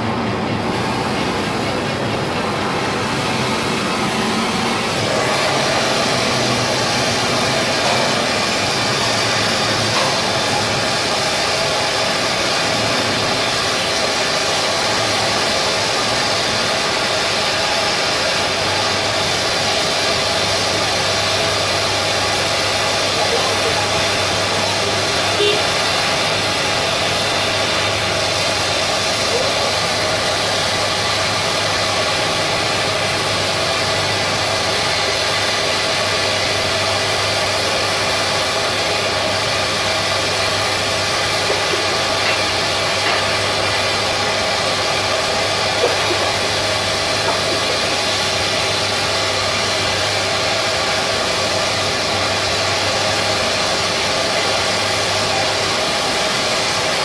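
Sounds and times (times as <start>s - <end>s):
machinery hiss: 0.0s - 57.0s.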